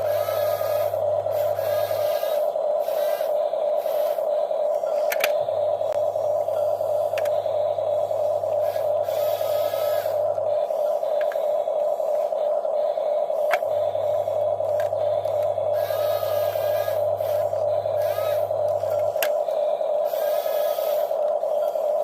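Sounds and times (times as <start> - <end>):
low hum: 0.0 - 22.0
small electric motors whining: 0.0 - 22.0.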